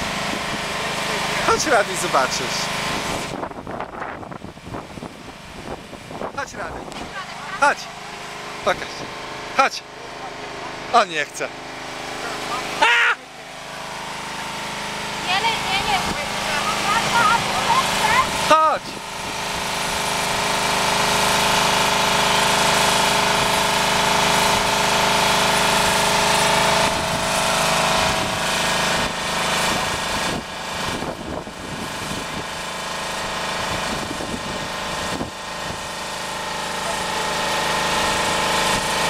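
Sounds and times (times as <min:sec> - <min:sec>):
fire truck engine droning: 0:00.0 - 0:39.0.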